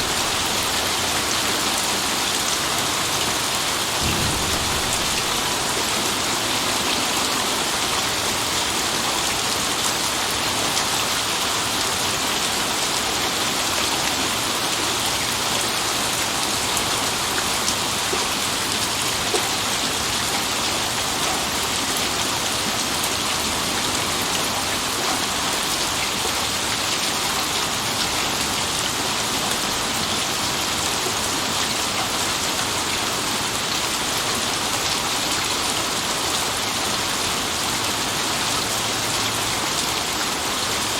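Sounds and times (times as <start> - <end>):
heavy rain on a surface: 0.0 - 40.9.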